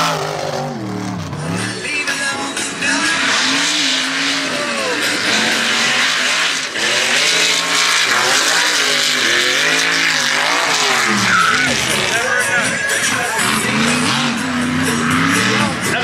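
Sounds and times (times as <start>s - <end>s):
truck engine revving: 0.0s - 16.0s
tyres churning mud: 2.7s - 16.0s.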